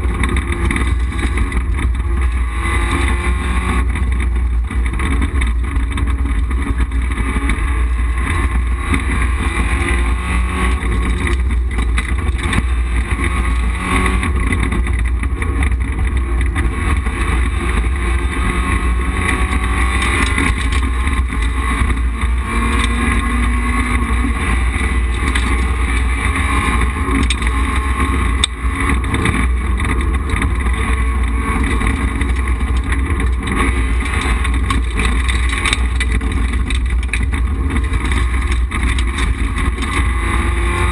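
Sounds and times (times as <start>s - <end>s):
rally car engine revving: 0.0s - 40.9s
road and cabin rumble: 0.0s - 40.9s.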